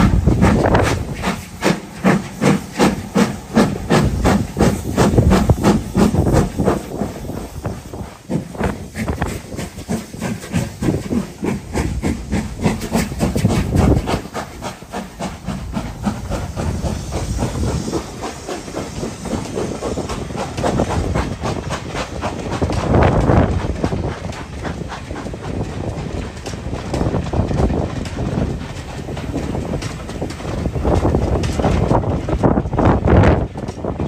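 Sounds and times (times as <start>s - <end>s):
steam hiss: 0.0s - 32.8s
steam locomotive exhaust beats: 0.0s - 34.0s.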